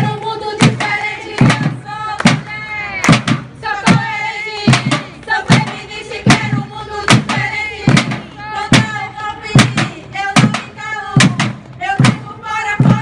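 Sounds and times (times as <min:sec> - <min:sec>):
plastic barrel drums: 0:00.0 - 0:13.0
women singing a chant: 0:00.0 - 0:13.0.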